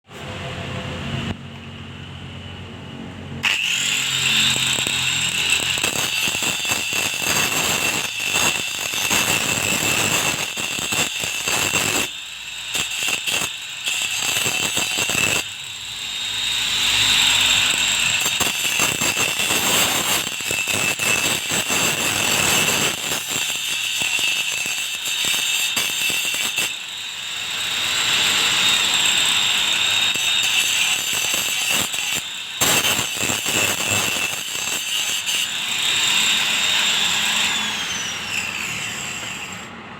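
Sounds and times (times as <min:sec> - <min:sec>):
angle grinder grinding metal: 0:03.4 - 0:39.8.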